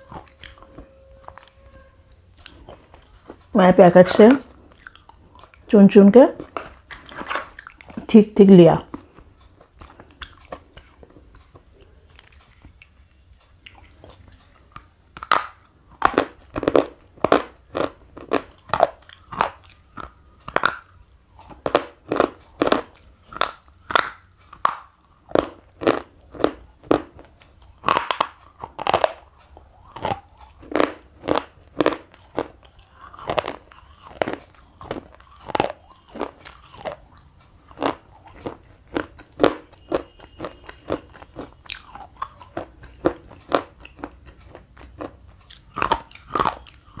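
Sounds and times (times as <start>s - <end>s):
slate pencil being chewed: 8.9s - 47.0s.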